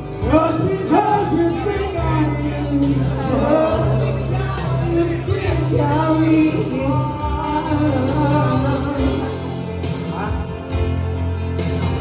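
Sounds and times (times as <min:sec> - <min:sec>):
man singing into a microphone: 0:00.0 - 0:10.8
backing track with bass beat: 0:00.0 - 0:12.0.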